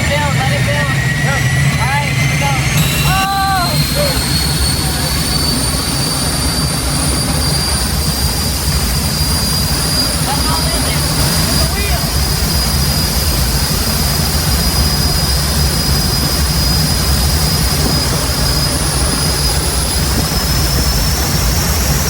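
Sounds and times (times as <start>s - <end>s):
jet turbine engine whining: 0.0s - 22.0s.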